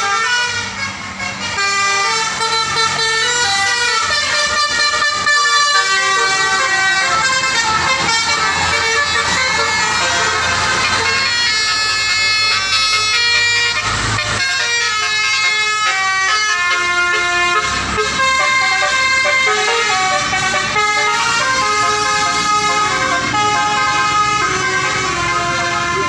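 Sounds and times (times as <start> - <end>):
bus air horns playing melodies: 0.0 - 26.0.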